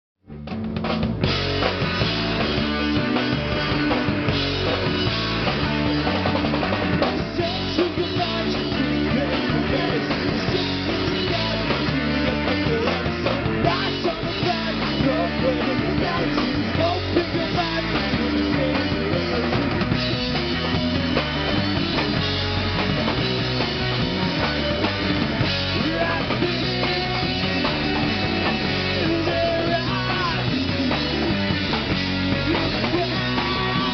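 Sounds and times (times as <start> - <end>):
drum kit: 0.2 - 33.9
punk rock band playing: 0.2 - 33.9
electric guitar: 0.3 - 33.9.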